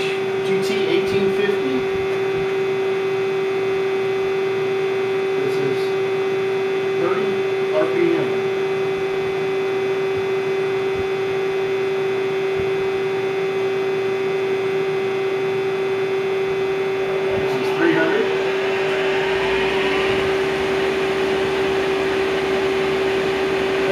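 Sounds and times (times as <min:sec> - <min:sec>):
lathe humming: 0:01.6 - 0:23.9.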